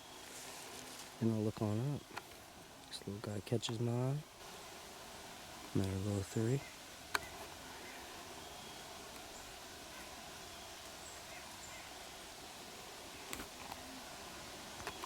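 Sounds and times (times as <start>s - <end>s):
distant bird calls: 0.0s - 3.0s, 3.7s - 15.0s
faint hiss: 0.0s - 15.0s.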